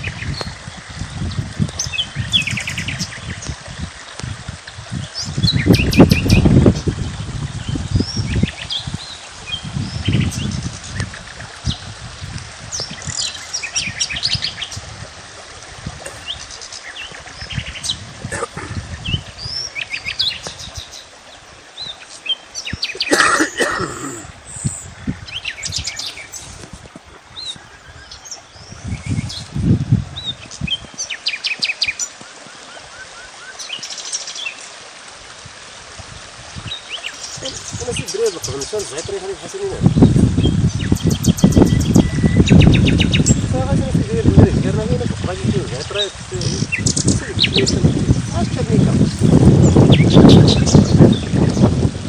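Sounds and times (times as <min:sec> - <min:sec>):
small birds chirping and trilling: 0:00.0 - 0:03.6, 0:05.0 - 0:15.0, 0:16.0 - 0:23.2, 0:24.0 - 0:26.7, 0:27.3 - 0:34.8, 0:36.1 - 0:51.9.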